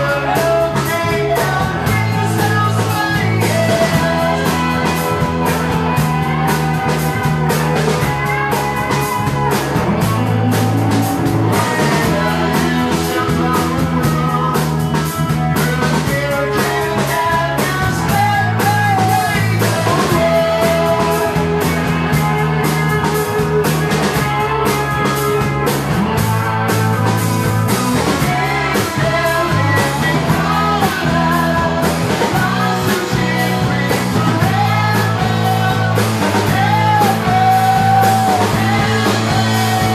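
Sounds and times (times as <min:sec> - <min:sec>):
man singing: 0:00.0 - 0:25.6, 0:27.7 - 0:39.9
drum kit: 0:00.0 - 0:39.9
electric guitar: 0:00.0 - 0:39.9.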